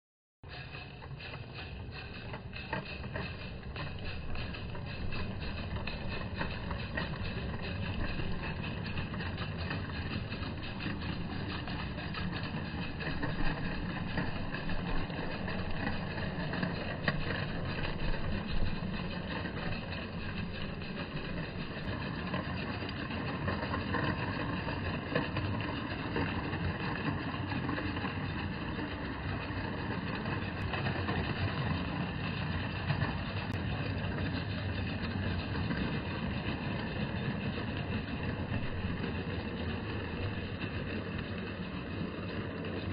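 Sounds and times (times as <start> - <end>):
model train wheels clattering: 0.5 - 42.9.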